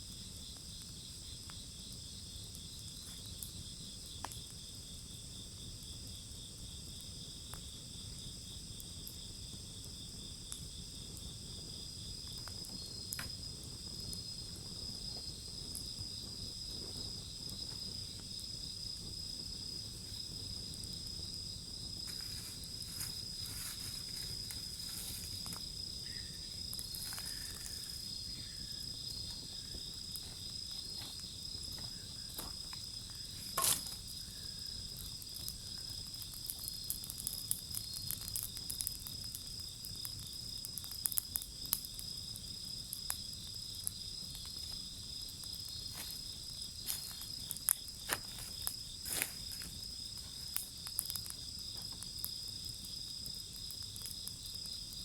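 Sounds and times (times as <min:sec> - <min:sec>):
bonfire crackling and popping: 0:00.0 - 0:55.0
crickets chirping: 0:00.0 - 0:55.0.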